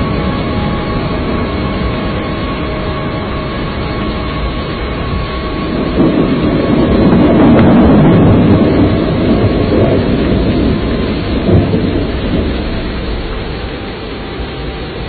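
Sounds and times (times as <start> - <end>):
storm roaring: 0.0 - 15.0.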